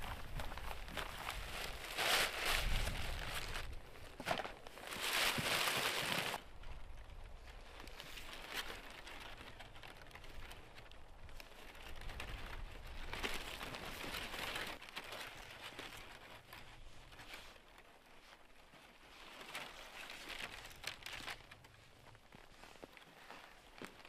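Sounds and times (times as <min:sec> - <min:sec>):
gear rustling and crinkling: 0:00.0 - 0:24.0.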